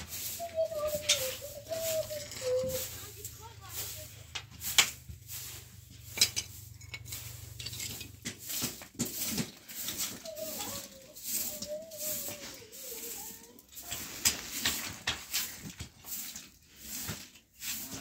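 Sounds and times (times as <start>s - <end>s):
straw broom sweeping dirt floor: 0.0s - 18.0s.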